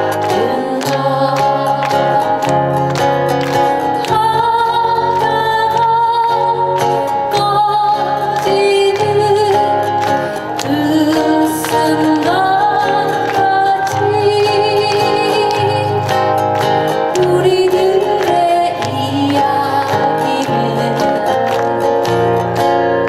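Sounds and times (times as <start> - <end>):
woman singing: 0.0 - 2.9, 4.0 - 16.3, 17.0 - 21.5
backing track with bass and guitar: 0.0 - 23.0.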